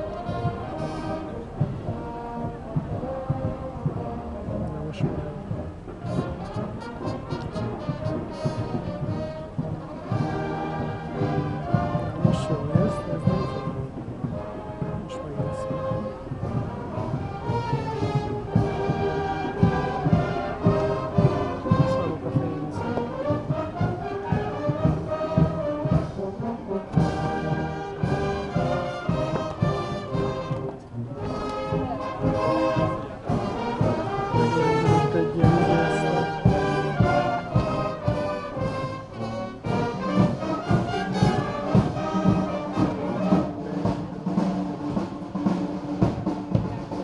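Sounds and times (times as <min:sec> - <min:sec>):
brass band music: 0:00.0 - 0:47.0.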